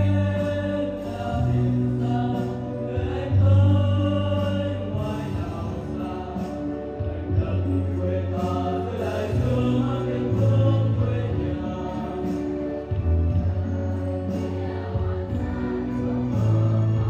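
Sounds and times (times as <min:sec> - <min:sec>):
backing music with bass line: 0:00.0 - 0:17.0
young voices singing together: 0:00.0 - 0:17.0.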